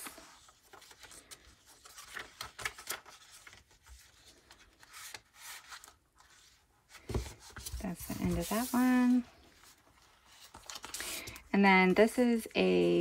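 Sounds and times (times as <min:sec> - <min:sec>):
paper and card rustling: 0:00.0 - 0:13.0.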